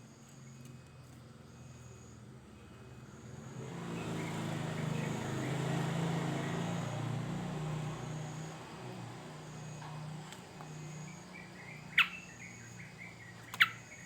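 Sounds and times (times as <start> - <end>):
motor vehicle passing by: 2.7 - 14.0.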